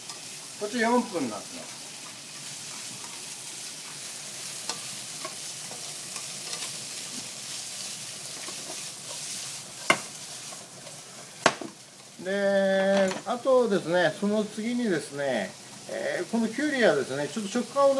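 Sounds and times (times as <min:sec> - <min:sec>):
food sizzling in frying pan: 0:00.0 - 0:17.9.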